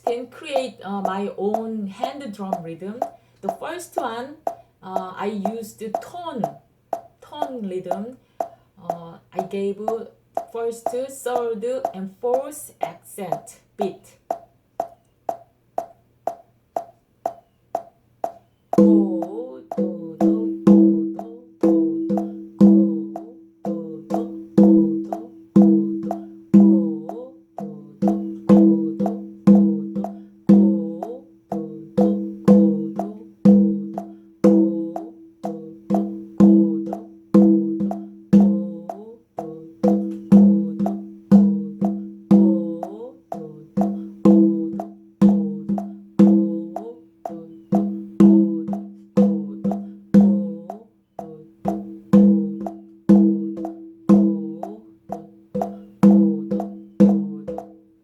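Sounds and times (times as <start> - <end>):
hand drum strikes: 0.0 - 7.2, 7.9 - 12.0, 14.3 - 57.8.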